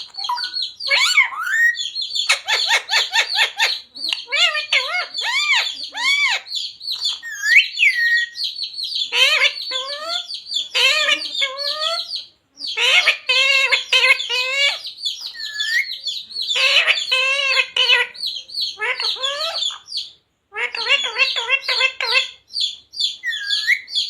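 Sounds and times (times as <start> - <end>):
parrot squawking and chattering: 0.0 - 24.0.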